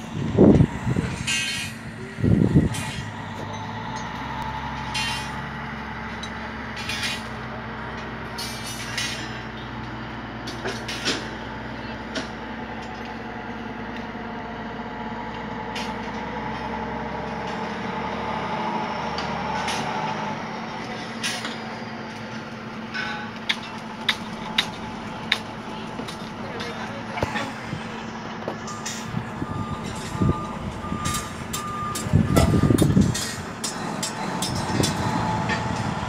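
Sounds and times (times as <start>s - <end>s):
truck engines running: 0.0s - 36.0s.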